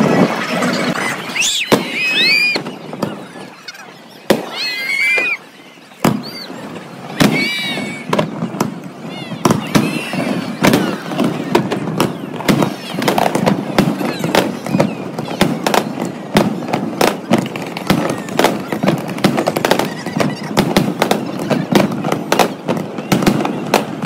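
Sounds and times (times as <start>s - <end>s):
fireworks bangs: 0.0s - 24.0s
fireworks high squeals: 0.0s - 24.0s.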